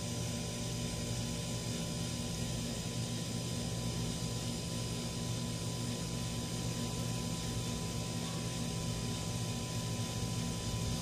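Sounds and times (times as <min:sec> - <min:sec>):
faint thin whine: 0:00.0 - 0:11.0
low mechanical hum: 0:00.0 - 0:11.0.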